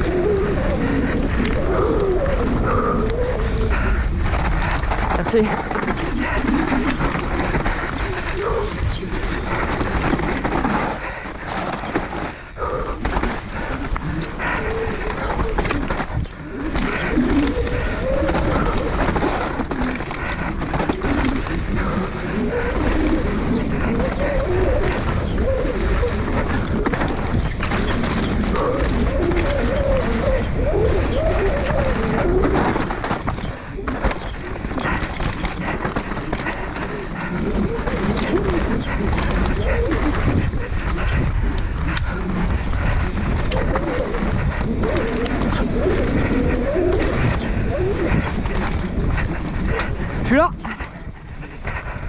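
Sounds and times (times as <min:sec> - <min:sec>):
bike frame rattling: 0:00.0 - 0:52.0
bike tyres rolling over dirt: 0:00.0 - 0:52.0
rider breathing hard and grunting: 0:00.0 - 0:52.0
wind buffeting microphone: 0:00.0 - 0:52.0.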